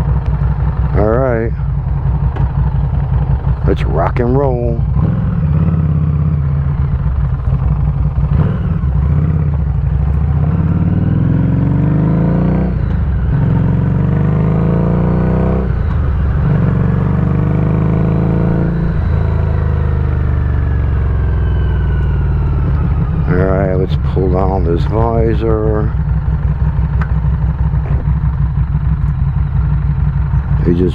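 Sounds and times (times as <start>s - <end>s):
motorcycle accelerating through gears: 0.0s - 30.9s.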